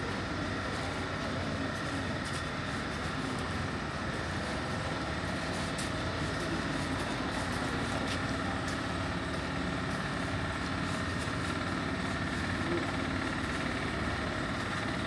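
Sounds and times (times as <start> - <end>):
street traffic: 0.0 - 15.0
vehicle engine running: 0.0 - 15.0.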